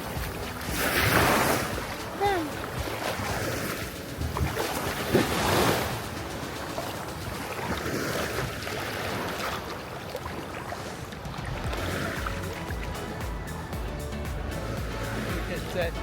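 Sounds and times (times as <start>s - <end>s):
small waves washing onto sand: 0.0s - 13.6s, 14.6s - 16.0s
wind buffeting microphone: 0.0s - 13.7s.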